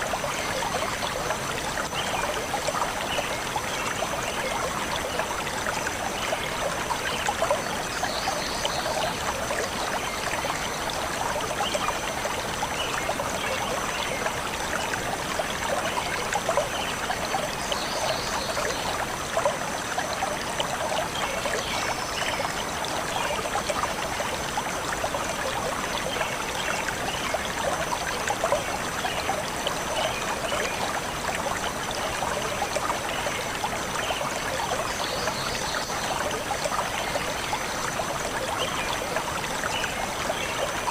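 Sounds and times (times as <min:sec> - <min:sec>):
stream flowing over stones: 0:00.0 - 0:40.9.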